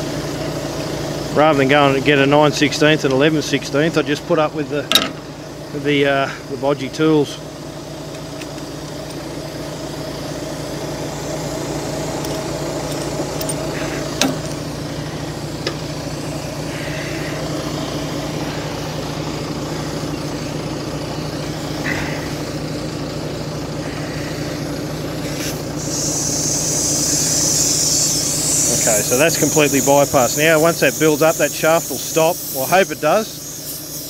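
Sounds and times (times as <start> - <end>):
diesel truck engine idling: 0.0 - 34.0
compressed air hissing: 5.1 - 34.0.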